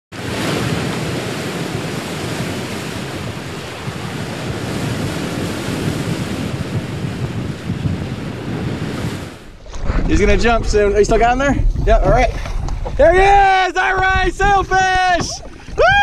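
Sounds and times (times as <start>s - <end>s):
ocean waves: 0.1s - 16.0s
wind: 0.1s - 16.0s.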